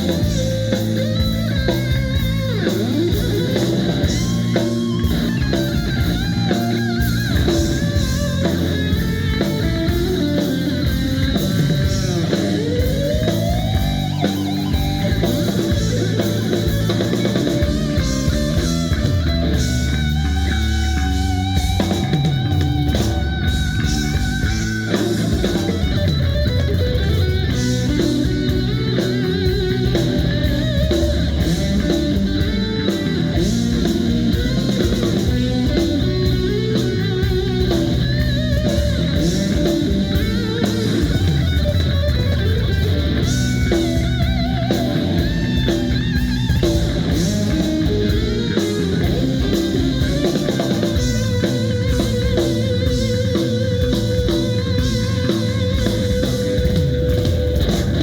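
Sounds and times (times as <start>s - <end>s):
bass guitar: 0.0s - 58.0s
drum kit: 0.0s - 58.0s
electric guitar lead: 0.0s - 58.0s.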